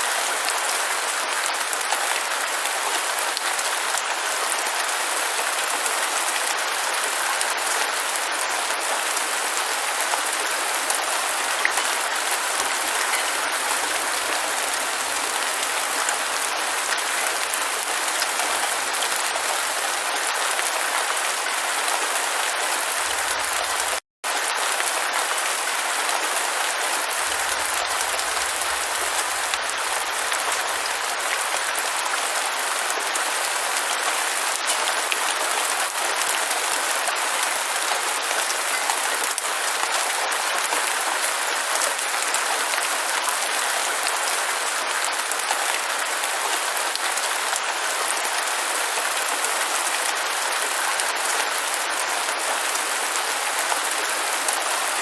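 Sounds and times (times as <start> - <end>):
dense rainfall hissing: 0.0 - 55.0.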